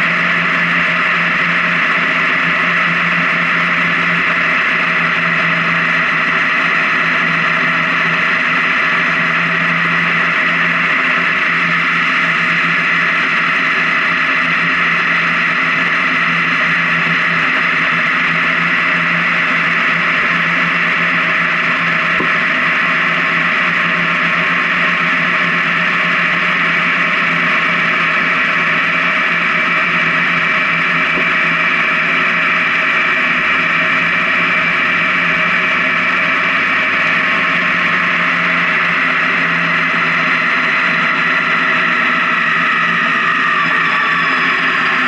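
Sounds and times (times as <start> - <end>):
motorcycle engine hum: 0.0 - 45.0.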